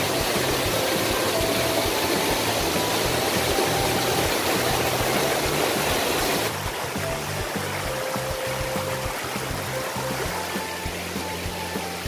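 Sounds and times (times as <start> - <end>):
music with low repeating beat: 0.0 - 12.0
water rushing: 0.0 - 12.0.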